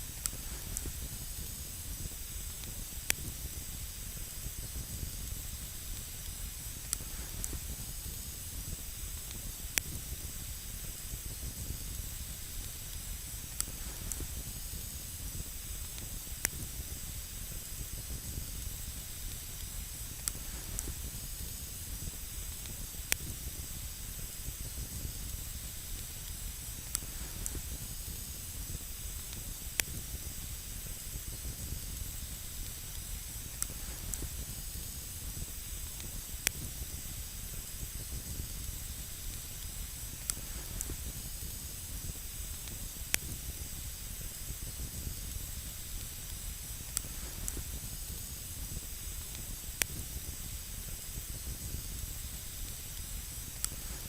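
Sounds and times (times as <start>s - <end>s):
campfire hissing: 0.0s - 54.0s.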